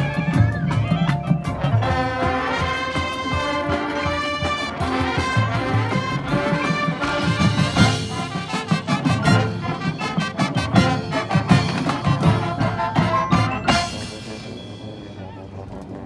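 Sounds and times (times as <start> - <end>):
drumline hits: 0.0 - 16.0
marching band brass chords: 0.0 - 16.0.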